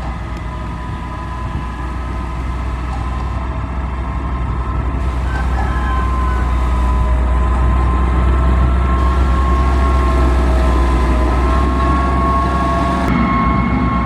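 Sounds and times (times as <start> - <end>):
diesel engine rumbling: 0.0 - 14.0
high-pitched whine: 0.0 - 14.0.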